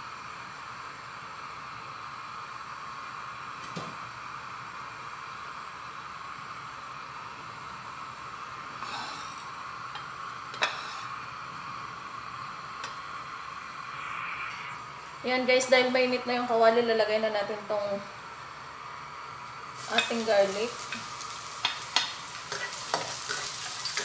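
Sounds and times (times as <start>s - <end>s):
gas burner hissing: 0.0s - 24.0s.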